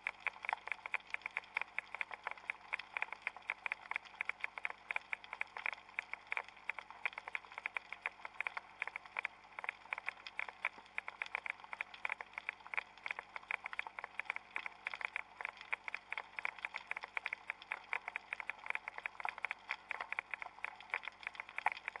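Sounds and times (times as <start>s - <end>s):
underwater crackling clicks: 0.0s - 22.0s.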